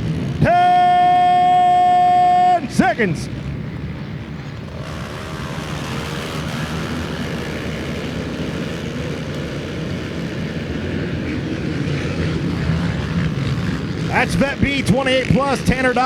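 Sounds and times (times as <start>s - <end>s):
atv engines revving: 0.0s - 16.0s.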